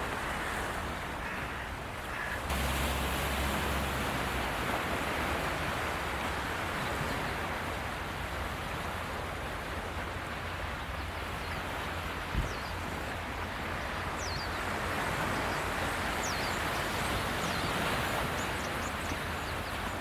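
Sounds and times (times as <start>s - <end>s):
sea surf: 0.0s - 20.0s.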